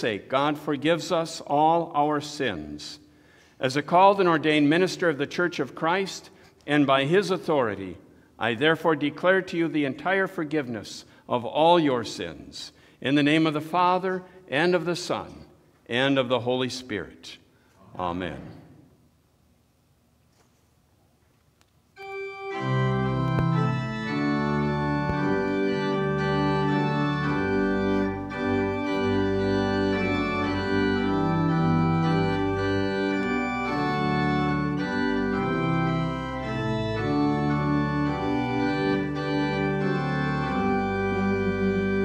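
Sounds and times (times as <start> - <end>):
organ playing sustained chords: 0.0 - 17.2, 22.0 - 42.0.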